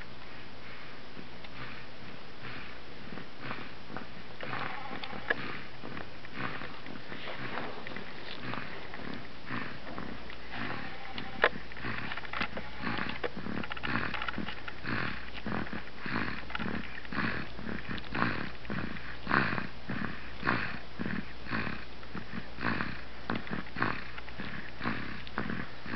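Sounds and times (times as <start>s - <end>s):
girl snoring: 1.5s - 25.9s.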